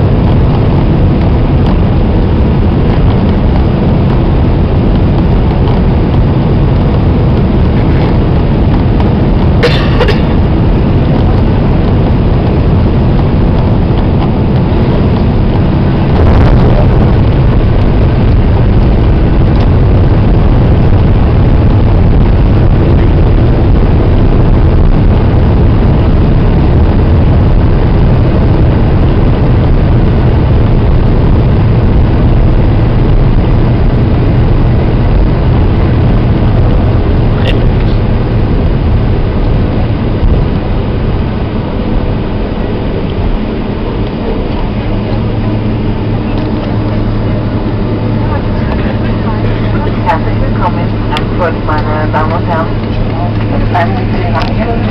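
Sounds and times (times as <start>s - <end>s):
deep rumble of jet engines: 0.0s - 54.9s.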